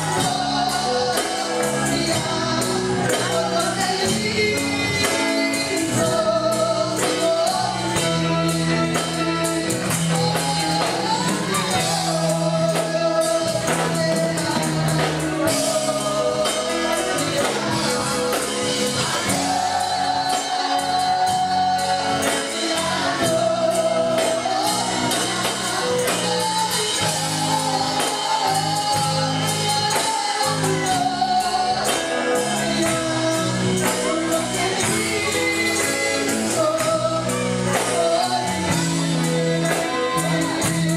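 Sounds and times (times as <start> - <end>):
band playing: 0.0 - 40.9
driving percussion beat: 0.0 - 40.9
voices singing: 0.0 - 40.9.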